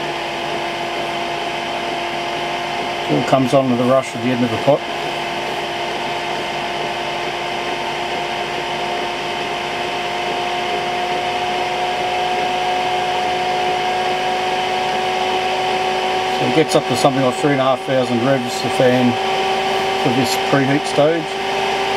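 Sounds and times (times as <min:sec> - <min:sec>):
blower fan whining: 0:00.0 - 0:21.9.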